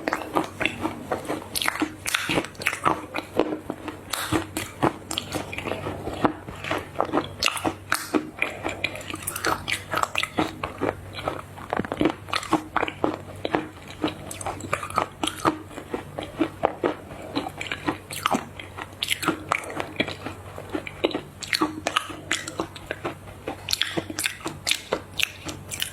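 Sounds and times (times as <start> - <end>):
crunchy chewing: 0.0 - 25.9.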